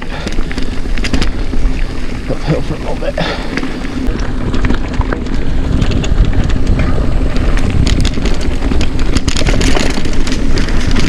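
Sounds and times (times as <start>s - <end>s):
bike tyres clicking and rattling: 0.0s - 11.0s
low rumble of wind: 0.0s - 11.0s.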